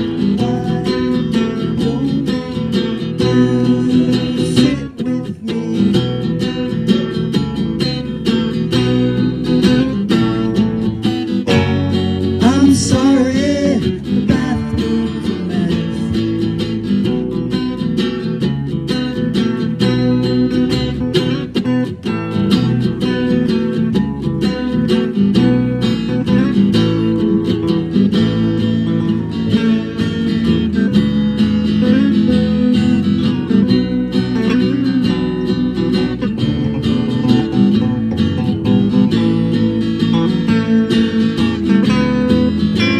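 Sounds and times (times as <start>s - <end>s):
band playing with strummed guitars: 0.0s - 42.9s.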